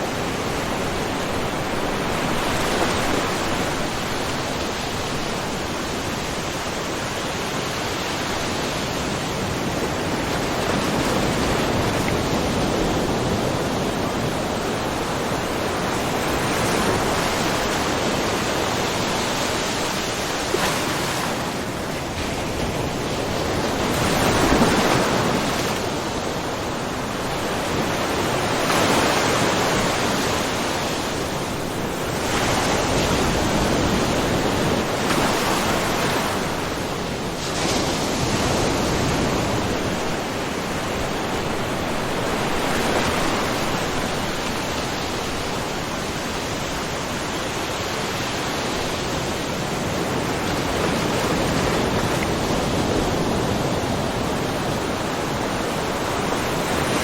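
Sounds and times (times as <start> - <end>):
small waves splashing on shore: 0.0 - 57.0.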